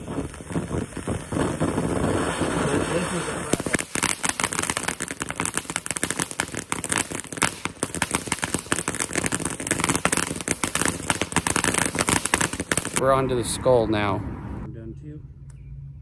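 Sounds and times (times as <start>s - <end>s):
firework fountain crackling: 0.0s - 13.2s.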